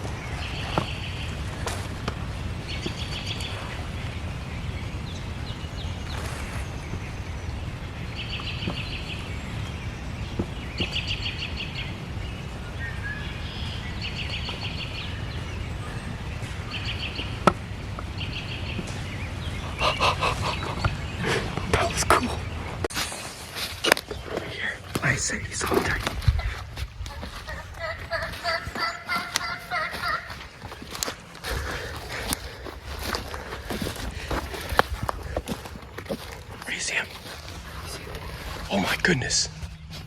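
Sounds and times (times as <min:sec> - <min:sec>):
steady low rumble: 0:00.0 - 0:40.0
songbird trilling: 0:02.6 - 0:22.8, 0:24.1 - 0:40.0.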